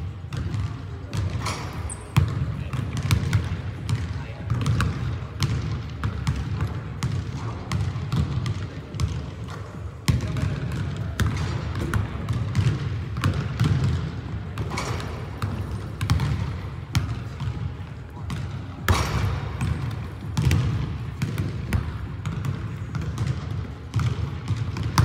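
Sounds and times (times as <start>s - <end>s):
basketballs bouncing on hardwood floor: 0.2s - 25.0s.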